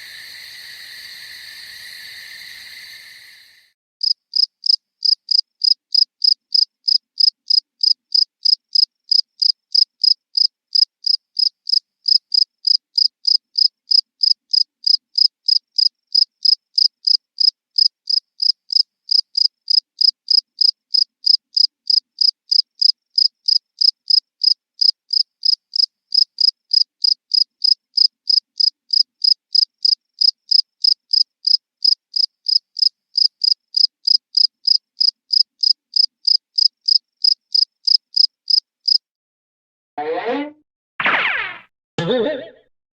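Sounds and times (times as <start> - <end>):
cricket chirping: 0.0 - 39.0.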